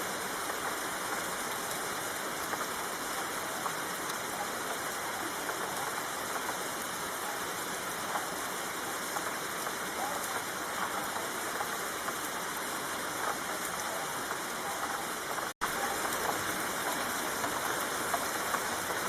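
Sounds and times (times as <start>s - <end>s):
steady rain falling: 0.0s - 19.0s
raindrop ticks: 0.1s - 19.0s.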